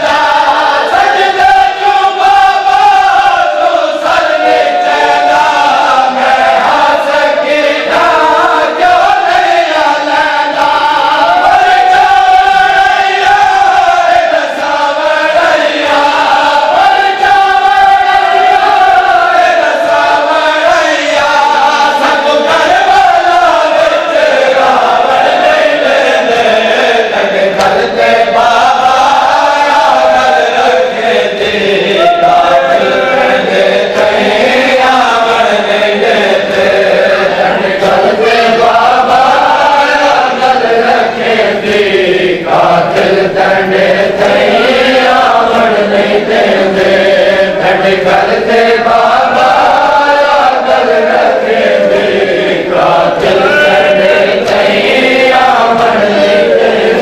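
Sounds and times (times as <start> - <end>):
crowd of men chanting: 0.0 - 57.0
man singing through microphone: 0.0 - 57.0.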